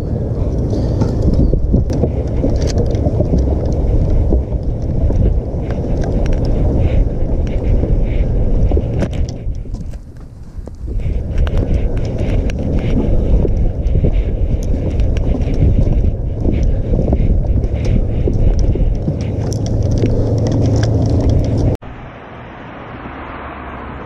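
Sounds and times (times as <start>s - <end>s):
cart rolling over wooden planks: 0.0s - 21.8s
wind noise on microphone: 0.0s - 21.8s.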